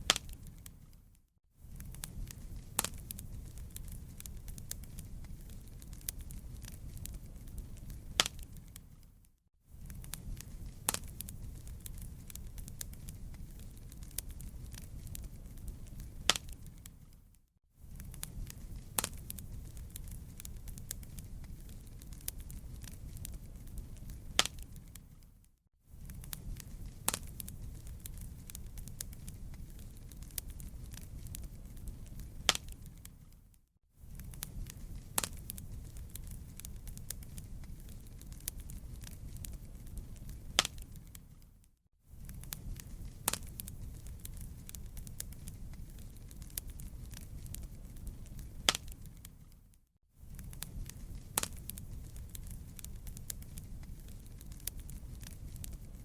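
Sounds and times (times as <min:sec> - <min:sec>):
wood fire popping and snapping: 0:00.0 - 0:41.5, 0:42.1 - 0:49.7, 0:50.3 - 0:56.0
fire rumbling: 0:00.0 - 0:56.0.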